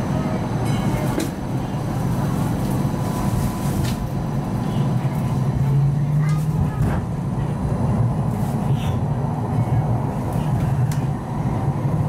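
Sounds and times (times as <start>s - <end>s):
light rail car rumble: 0.0s - 12.0s.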